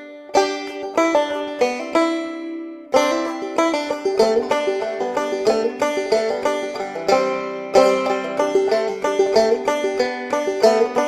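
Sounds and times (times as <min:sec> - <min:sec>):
plucked string instrument: 0:00.0 - 0:11.0.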